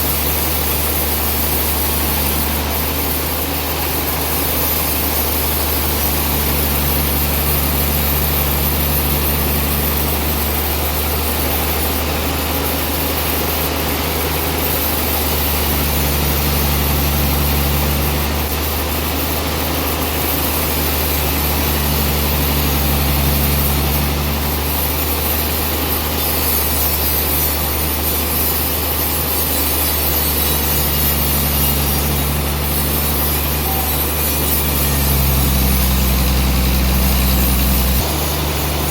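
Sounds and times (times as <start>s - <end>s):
mill engine drone: 0.0s - 38.9s
saw blade cutting log: 0.0s - 38.9s.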